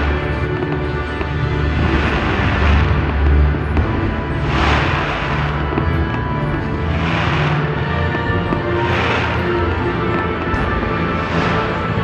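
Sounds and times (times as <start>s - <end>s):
firework fountains hissing: 0.0s - 12.0s
music with sustained tones: 0.0s - 12.0s.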